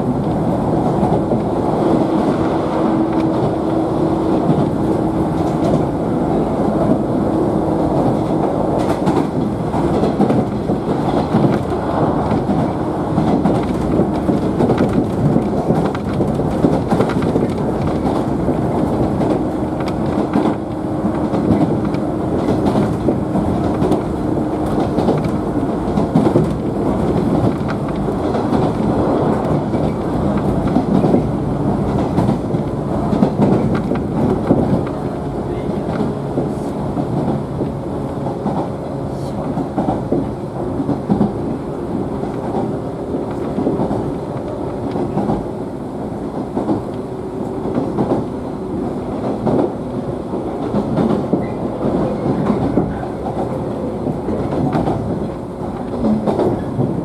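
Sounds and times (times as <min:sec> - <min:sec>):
train wheel and rail noise: 0:00.0 - 0:57.0.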